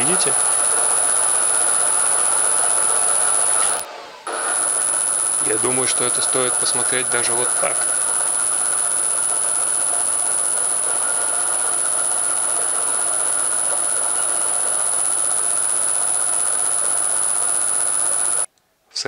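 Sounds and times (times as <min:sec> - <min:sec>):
high-pitched whine: 0:00.0 - 0:18.5
milling machine spindle running: 0:00.0 - 0:18.5.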